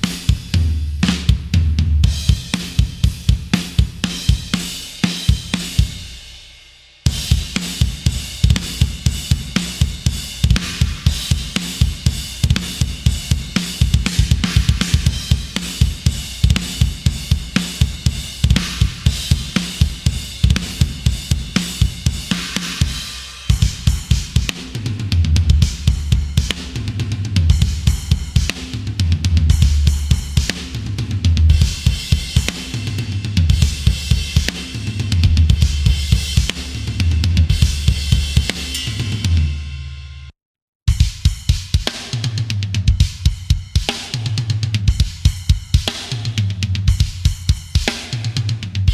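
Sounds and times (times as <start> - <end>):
metal drum groove: 0.0 - 40.3, 40.9 - 48.9.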